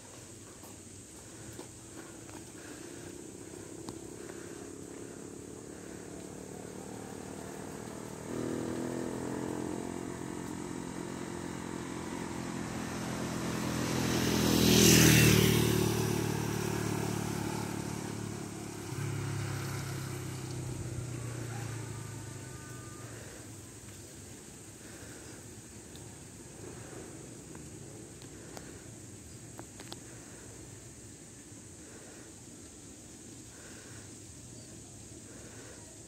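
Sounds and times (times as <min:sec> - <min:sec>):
steady engine hum: 0:00.0 - 0:36.0
vehicle passing by: 0:01.2 - 0:32.3.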